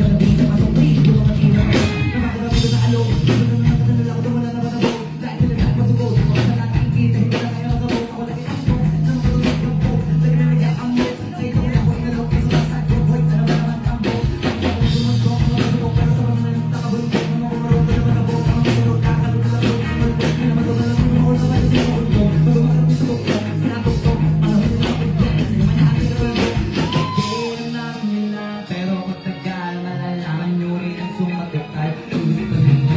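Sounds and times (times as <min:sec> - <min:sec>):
bass-heavy hip-hop beat: 0:00.0 - 0:32.9
rapper's voice on microphone: 0:00.0 - 0:32.9.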